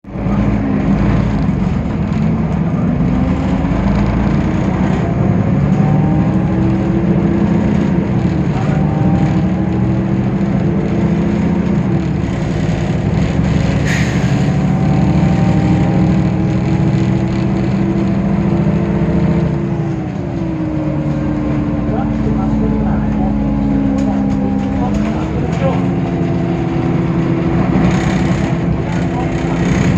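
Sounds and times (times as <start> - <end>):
heavy bus engine drone: 0.0 - 29.9.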